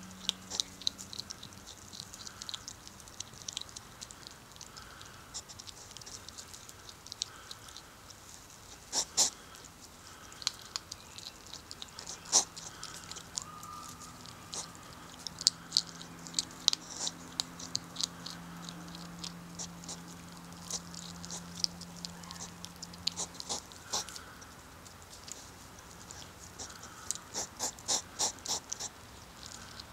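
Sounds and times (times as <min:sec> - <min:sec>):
faint low hum: 0:00.0 - 0:29.9
hedgehog crunching pellet food: 0:00.0 - 0:29.9.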